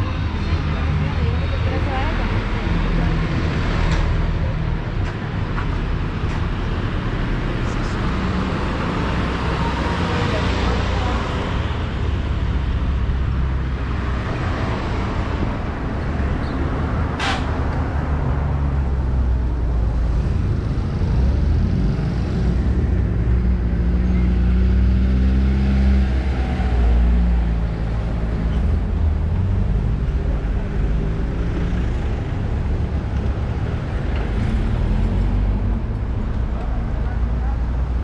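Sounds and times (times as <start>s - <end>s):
vehicle engines running: 0.0s - 38.0s.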